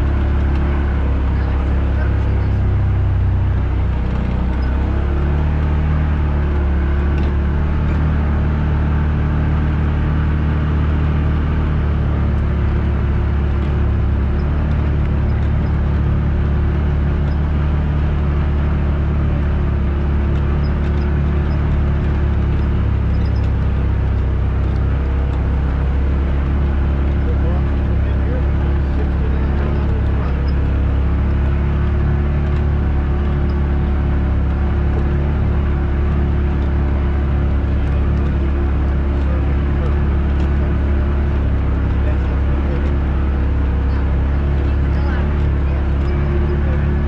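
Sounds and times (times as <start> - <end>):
off-road vehicle engine droning: 0.0 - 47.0.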